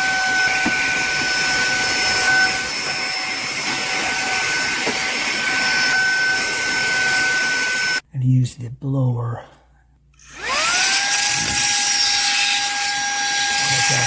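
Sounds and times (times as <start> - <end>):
handheld vacuum cleaner running: 0.0 - 8.0, 10.2 - 14.0.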